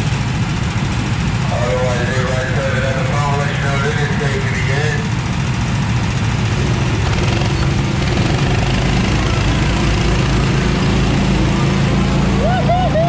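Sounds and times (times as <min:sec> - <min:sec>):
go-kart engines idling: 0:00.0 - 0:13.0.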